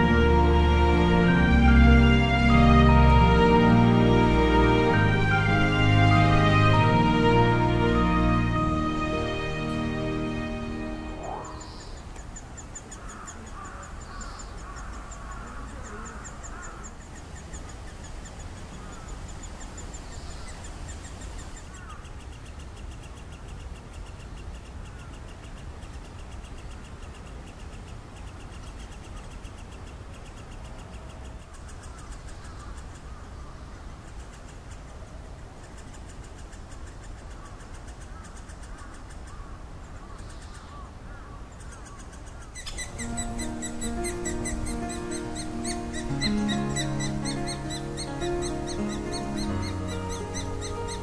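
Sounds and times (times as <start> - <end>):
nestlings calling: 4.3 - 51.0.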